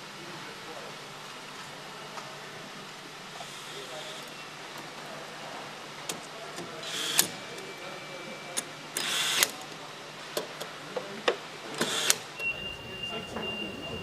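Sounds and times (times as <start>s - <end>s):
factory background noise: 0.0s - 14.0s.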